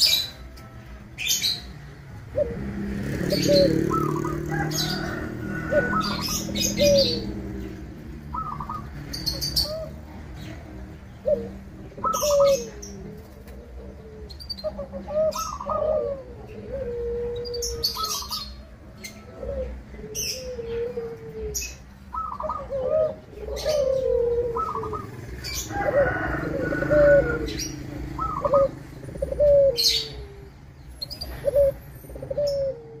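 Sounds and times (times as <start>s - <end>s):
dove cooing: 1.2s - 33.0s.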